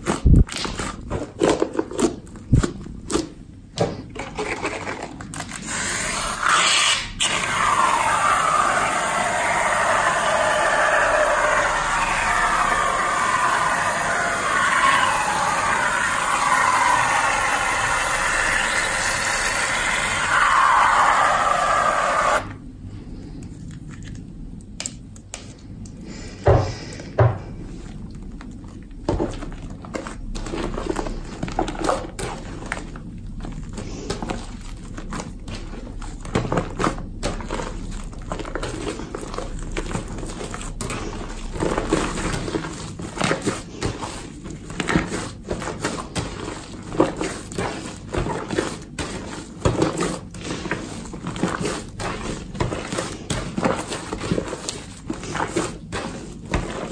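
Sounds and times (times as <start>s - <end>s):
slime squelching: 0.0s - 56.9s.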